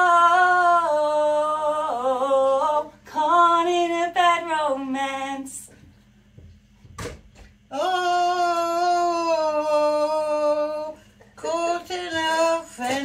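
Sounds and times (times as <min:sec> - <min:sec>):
woman singing: 0:00.0 - 0:05.8, 0:07.7 - 0:13.0.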